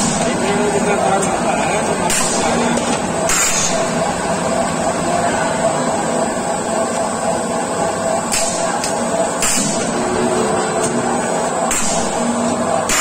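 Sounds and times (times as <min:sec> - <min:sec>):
machine running: 0:00.0 - 0:13.0.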